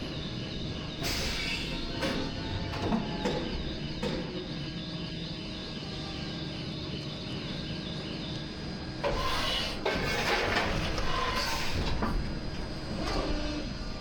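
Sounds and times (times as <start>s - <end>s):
machine humming and hissing: 0.0s - 14.0s.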